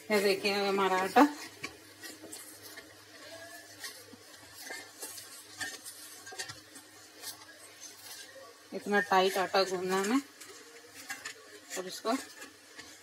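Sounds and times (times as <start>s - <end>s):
dough kneaded in metal bowl: 0.0s - 13.0s.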